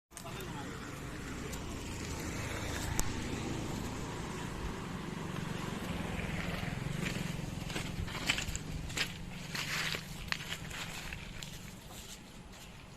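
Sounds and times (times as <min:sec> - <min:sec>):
diesel engine running: 0:00.3 - 0:12.0.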